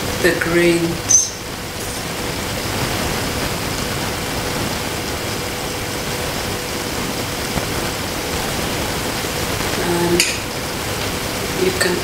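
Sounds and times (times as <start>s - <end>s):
faint steady hum: 0.0s - 12.0s
steady hiss: 0.0s - 12.0s.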